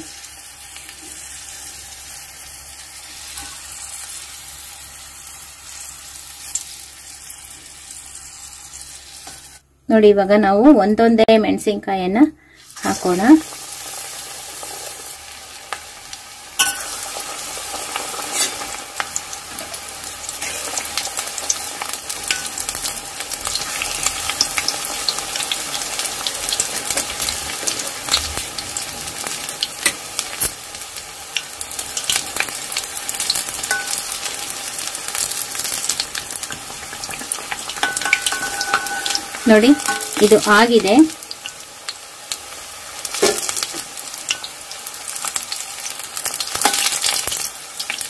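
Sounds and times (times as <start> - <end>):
deep-frying sizzling crackle: 0.0 - 9.8, 12.6 - 48.0.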